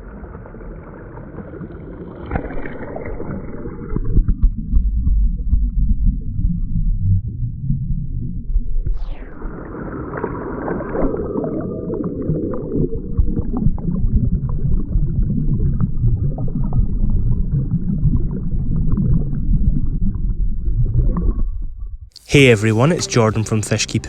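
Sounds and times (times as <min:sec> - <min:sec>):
muffled gurgling water: 0:00.0 - 0:22.1.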